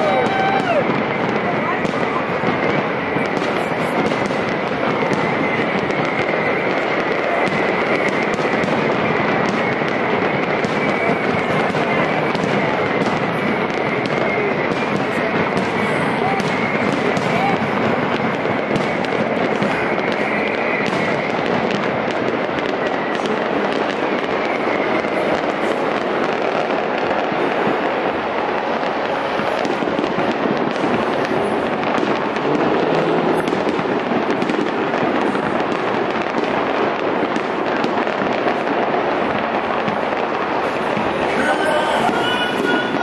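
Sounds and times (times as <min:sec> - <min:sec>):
fireworks crackling and popping: 0:00.0 - 0:43.0.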